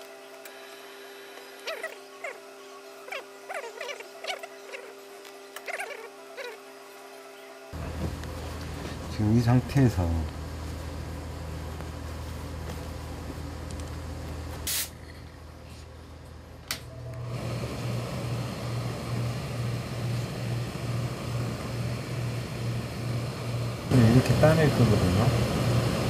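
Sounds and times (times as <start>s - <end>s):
fan-like hum with pulsing drone: 0.0s - 26.0s.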